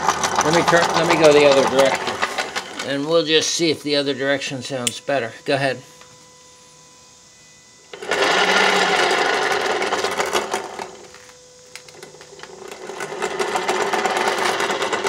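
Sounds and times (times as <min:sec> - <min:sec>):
electric motor mechanical rattle: 0:00.0 - 0:15.0.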